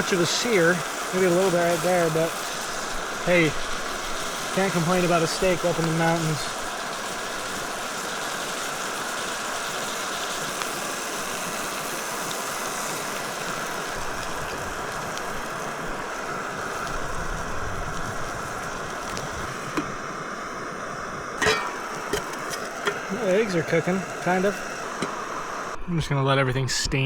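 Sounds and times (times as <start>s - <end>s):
food sizzling in a pan: 0.0s - 25.8s.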